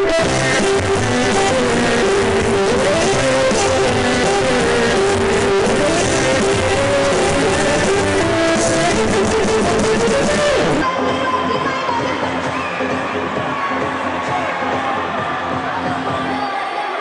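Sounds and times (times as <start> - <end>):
pop-rock music with guitar: 0.0 - 16.7.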